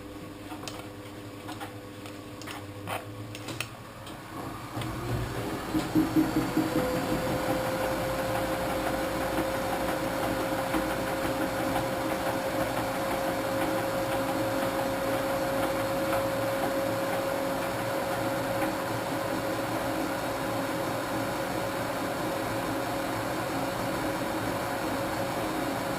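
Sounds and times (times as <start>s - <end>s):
washing machine running: 0.0s - 25.9s.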